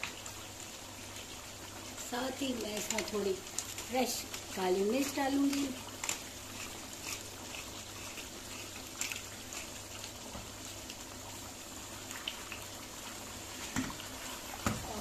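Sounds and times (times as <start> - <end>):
gravy simmering with pops: 0.0 - 15.0.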